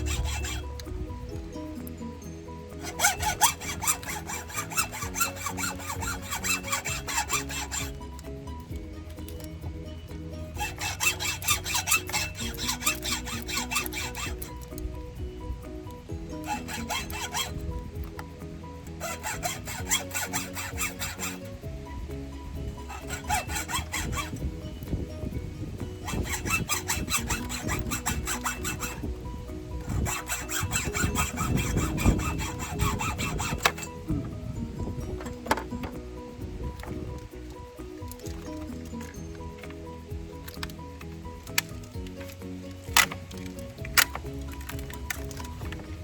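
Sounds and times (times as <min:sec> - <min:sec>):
background music: 0:00.0 - 0:46.0
hand tool scraping strokes: 0:00.0 - 0:46.0.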